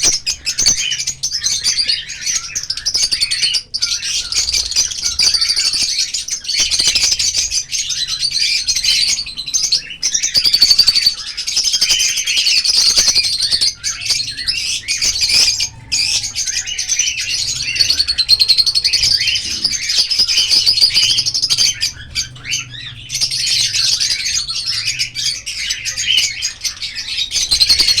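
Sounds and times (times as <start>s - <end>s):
lovebirds chirping: 0.0s - 28.0s.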